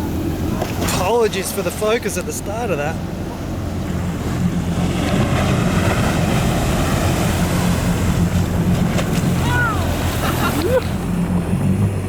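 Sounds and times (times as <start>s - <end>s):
boat engine idling: 0.0s - 12.0s
waves: 0.0s - 12.0s
wind: 0.0s - 12.0s.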